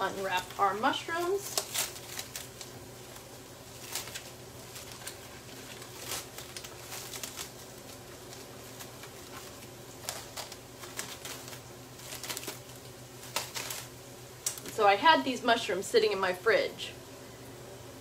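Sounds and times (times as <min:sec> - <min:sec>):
plastic packaging crinkling: 0:00.0 - 0:14.8
low steady hum: 0:00.0 - 0:18.0.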